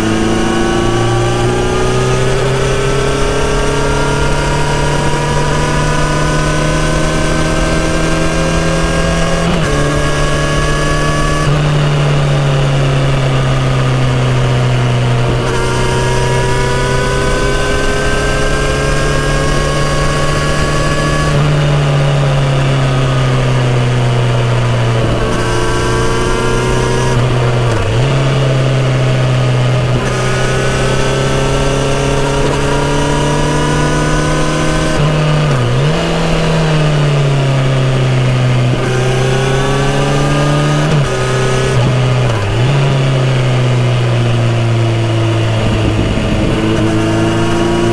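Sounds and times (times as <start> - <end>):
motorcycle engine under way: 0.0 - 47.9.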